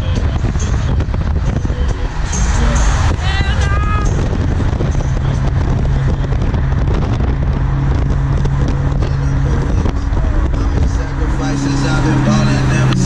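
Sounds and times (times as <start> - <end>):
car engine drone: 0.0 - 13.0
microphone crackling: 0.0 - 13.0
road and wind noise: 0.0 - 13.0.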